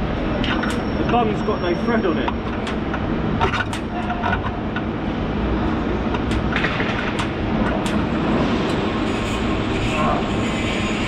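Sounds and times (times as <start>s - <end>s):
industrial machinery noise: 0.0s - 11.0s.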